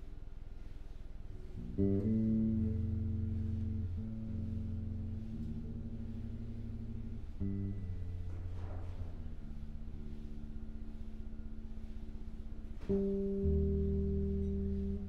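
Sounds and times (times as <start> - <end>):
low bass notes: 1.2 - 15.0.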